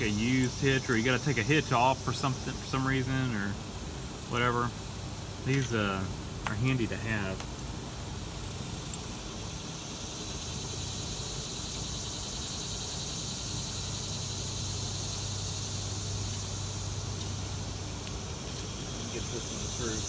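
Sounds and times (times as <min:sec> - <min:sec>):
hiss: 0:00.0 - 0:20.0
steady background hum: 0:00.0 - 0:20.0.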